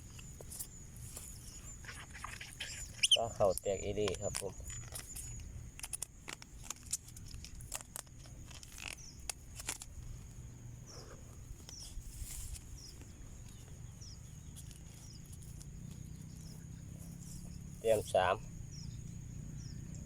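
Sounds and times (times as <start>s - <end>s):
high insect drone: 0.0s - 20.0s
rustles: 0.0s - 20.0s.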